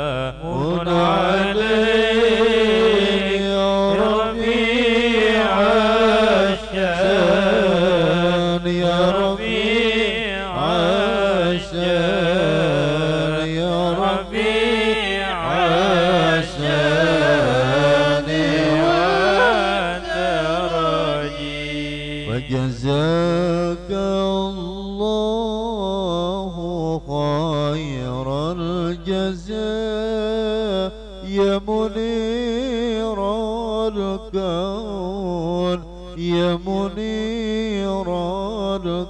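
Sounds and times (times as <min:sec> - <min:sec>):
men singing devotional song: 0:00.0 - 0:39.0.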